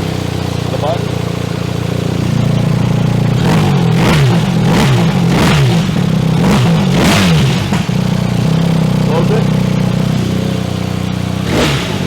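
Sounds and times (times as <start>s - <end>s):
motorcycle engine idling: 0.0s - 12.0s
motorcycle engine throttle blips: 0.0s - 12.0s.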